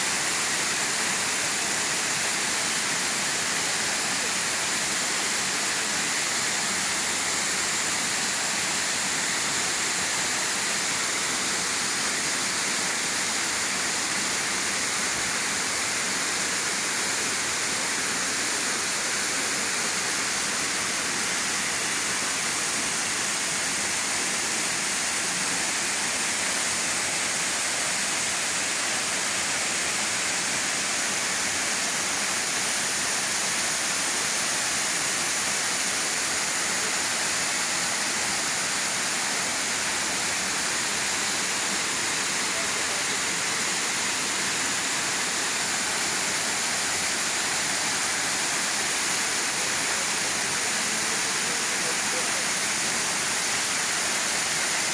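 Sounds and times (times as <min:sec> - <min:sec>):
rush of falling water: 0:00.0 - 0:54.9.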